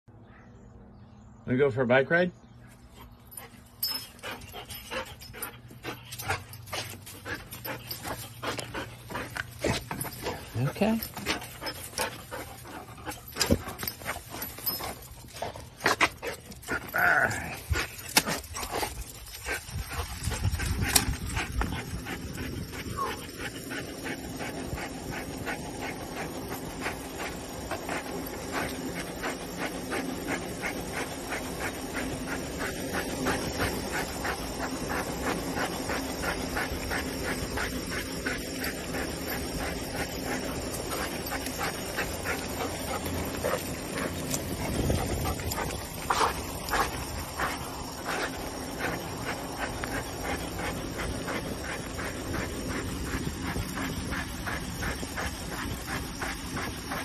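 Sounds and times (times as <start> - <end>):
steady hum from bicycle ride: 2.4 - 57.0.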